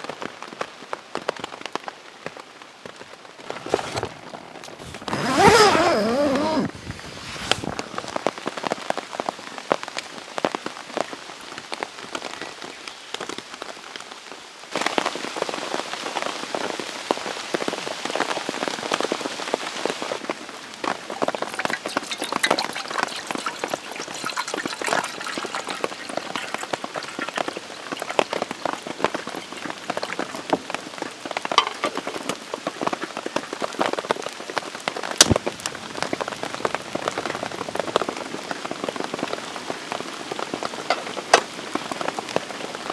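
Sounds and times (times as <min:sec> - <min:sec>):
rain drops ticking on surface: 0:00.0 - 0:03.5, 0:07.7 - 0:42.9.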